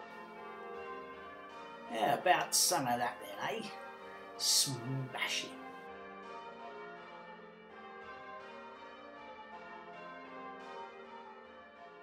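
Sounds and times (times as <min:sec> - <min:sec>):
church bells ringing a peal: 0:00.0 - 0:12.0.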